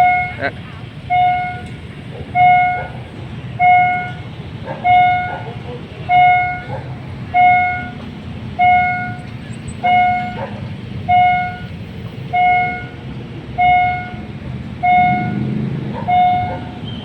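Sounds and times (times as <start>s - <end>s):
diesel train rumble: 0.0s - 17.0s
railway warning bell dinging: 0.0s - 17.0s.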